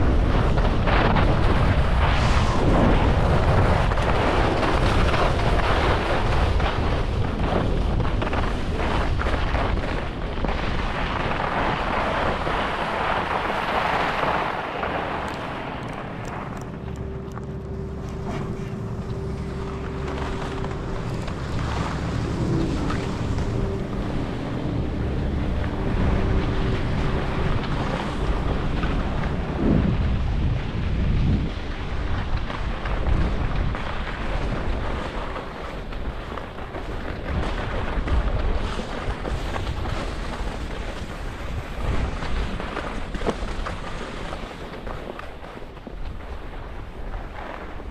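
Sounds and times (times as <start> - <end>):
skis sliding on snow: 0.0 - 16.8, 17.6 - 47.9
wind rushing over microphone: 0.0 - 47.9.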